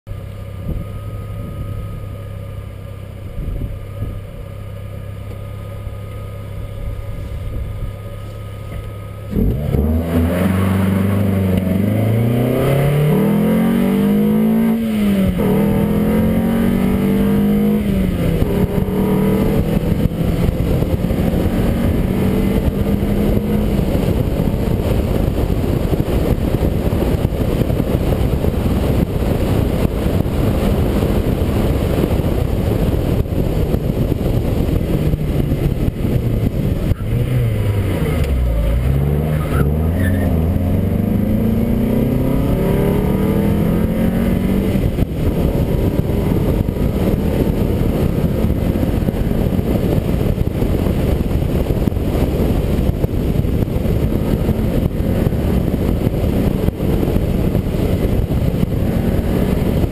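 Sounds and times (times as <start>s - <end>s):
car engine idling and accelerating: 0.1s - 59.9s
wind and road noise: 0.1s - 59.9s.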